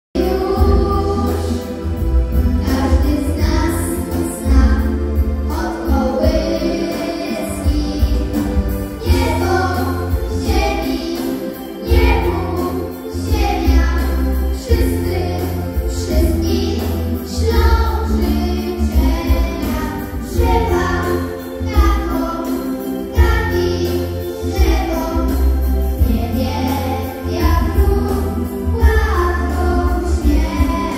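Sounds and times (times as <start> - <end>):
children singing into microphones: 0.2 - 30.9
instrumental backing track: 0.2 - 30.9.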